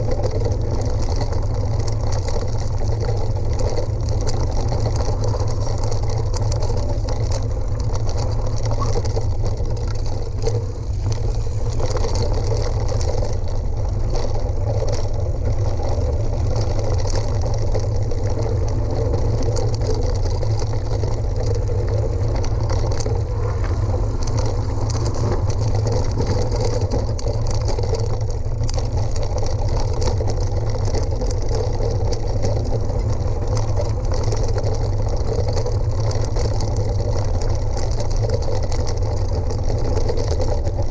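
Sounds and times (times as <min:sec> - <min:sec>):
stones crackling: 0:00.0 - 0:40.9
vehicle rumbling over gravel: 0:00.0 - 0:40.9.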